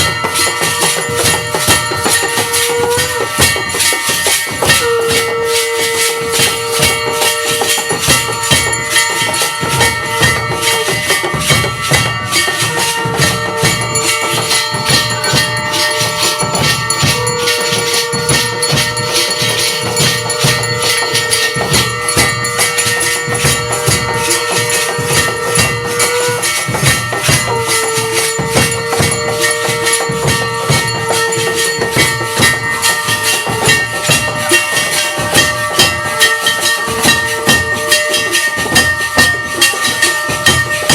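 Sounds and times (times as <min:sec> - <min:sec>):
bells and cymbals clanging: 0:00.0 - 0:40.9
drumming: 0:00.0 - 0:40.9
long held tones: 0:00.0 - 0:40.9.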